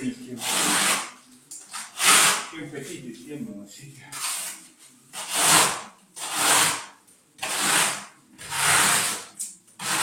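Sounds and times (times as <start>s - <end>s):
trowel scraping plaster: 0.3s - 2.5s, 4.1s - 10.0s.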